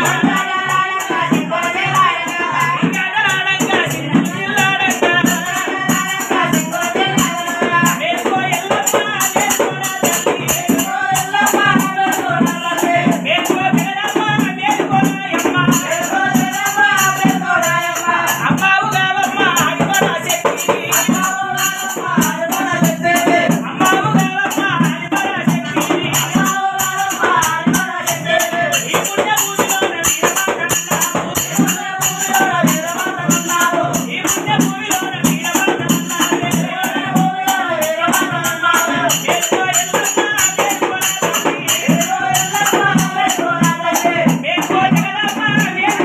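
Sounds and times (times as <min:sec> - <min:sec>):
man singing folk song: 0:00.0 - 0:46.0.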